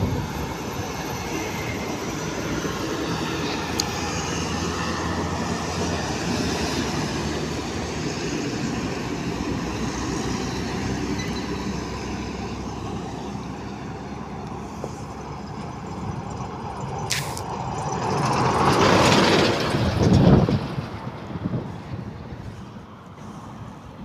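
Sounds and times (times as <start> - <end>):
diesel truck engines: 0.0 - 24.0
tyres on road: 0.0 - 24.0.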